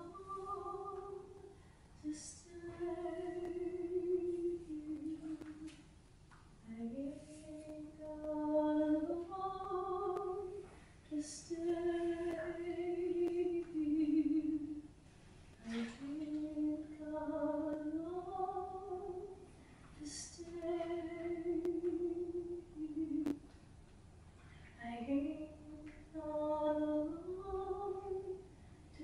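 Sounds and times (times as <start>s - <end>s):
woman singing unaccompanied: 0.0s - 5.9s, 6.6s - 14.9s, 15.6s - 19.4s, 20.0s - 23.4s, 24.8s - 29.0s.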